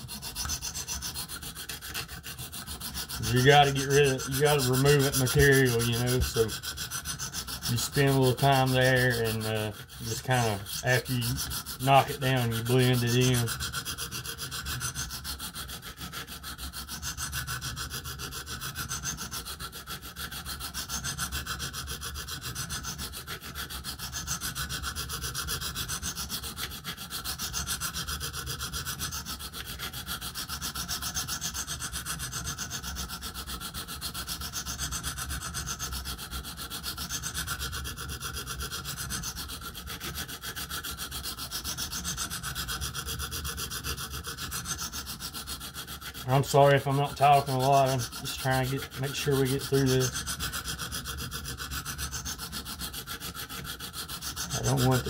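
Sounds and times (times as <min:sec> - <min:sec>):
sharpening stone scraping knife blade: 0:00.0 - 0:55.0.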